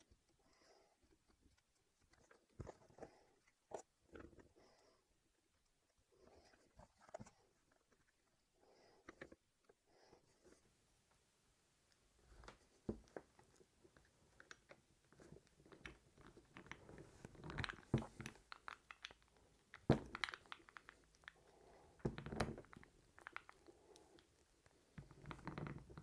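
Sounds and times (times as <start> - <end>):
faint clicks and scrapes: 0.0 - 11.2, 11.8 - 26.0.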